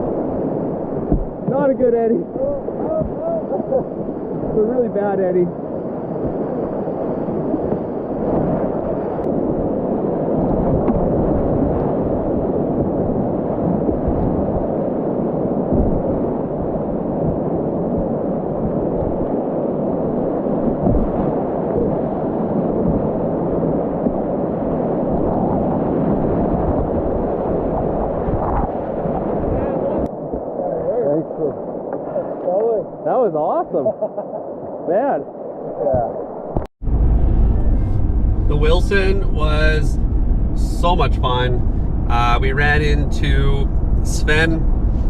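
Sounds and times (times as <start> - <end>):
low thumps of water: 0.0 - 9.5, 10.3 - 30.6, 35.8 - 45.0.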